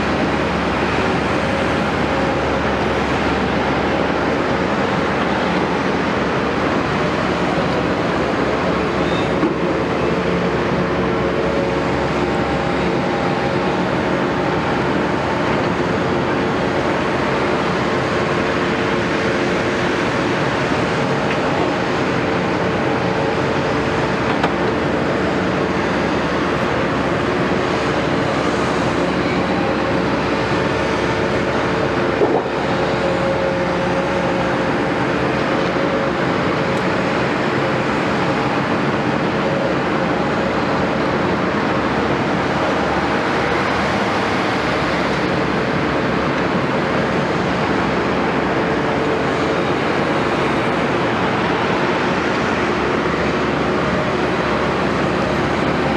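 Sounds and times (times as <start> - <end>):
excavator diesel engine droning: 0.0 - 55.9.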